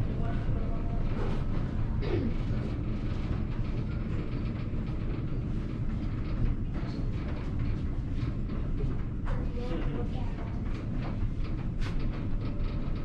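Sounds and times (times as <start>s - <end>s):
constant low rumble: 0.0s - 13.0s
mill machinery rattling hum: 0.0s - 13.0s.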